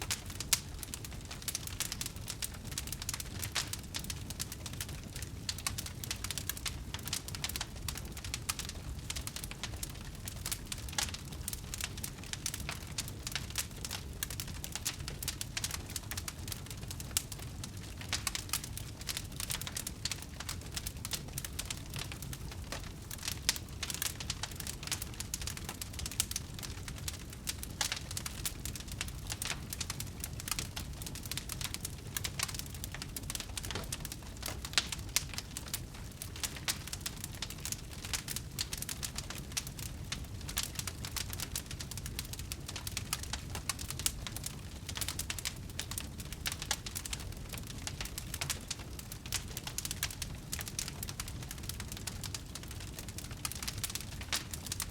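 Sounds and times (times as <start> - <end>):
campfire crackling and popping: 0.0 - 54.9
low fire rumble: 0.0 - 54.9.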